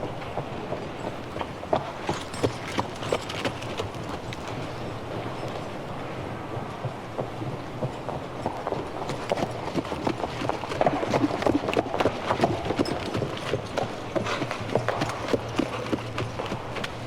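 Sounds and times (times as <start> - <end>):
horse hooves clip-clopping: 0.0 - 17.0.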